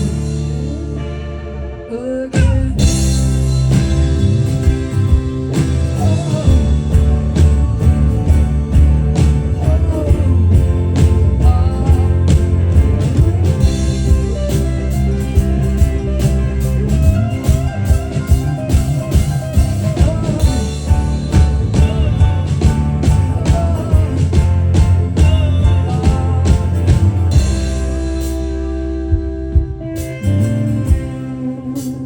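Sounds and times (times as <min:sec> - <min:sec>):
person singing: 0:00.0 - 0:08.0, 0:08.8 - 0:32.0
live rock band playing: 0:00.0 - 0:32.0.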